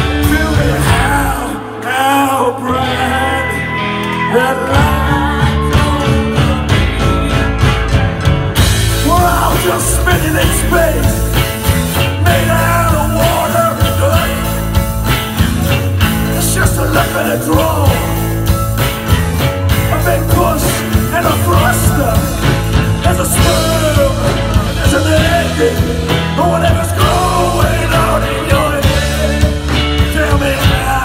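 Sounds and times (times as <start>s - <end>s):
drum kit: 0.0s - 2.0s, 3.5s - 31.0s
person singing: 0.0s - 7.9s, 8.9s - 15.0s, 16.0s - 31.0s
electric guitar: 0.0s - 31.0s
live rock band: 0.0s - 31.0s.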